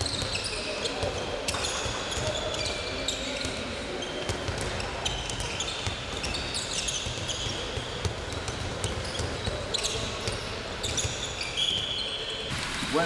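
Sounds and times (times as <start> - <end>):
sneaker squeaks: 0.0 - 12.6.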